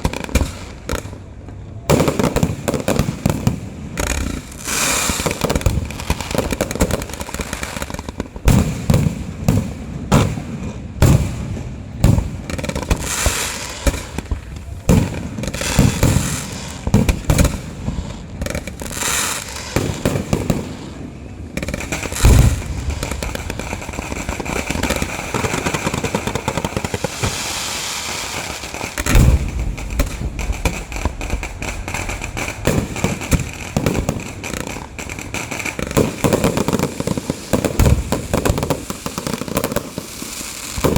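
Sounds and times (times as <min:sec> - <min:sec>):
fireworks bangs and booms: 0:00.0 - 0:40.9
fireworks crackling: 0:00.0 - 0:40.9.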